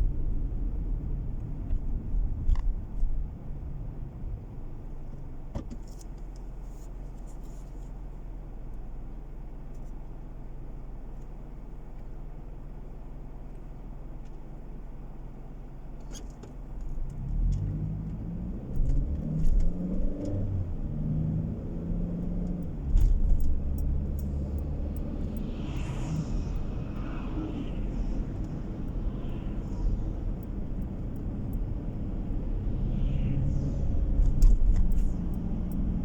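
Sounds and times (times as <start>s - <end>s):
car engine from inside cabin: 0.0s - 36.0s
road noise: 0.0s - 36.0s.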